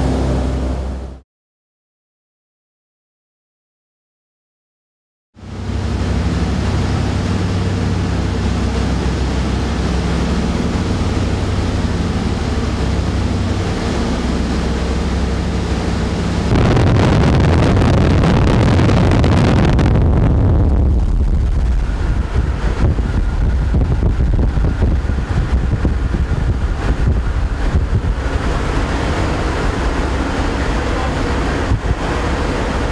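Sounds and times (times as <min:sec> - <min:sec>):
propeller engines droning: 0:00.0 - 0:01.2, 0:05.4 - 0:32.9.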